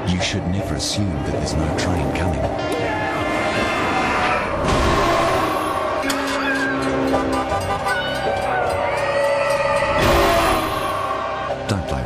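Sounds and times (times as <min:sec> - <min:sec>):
sustained layered background music: 0:00.0 - 0:12.0.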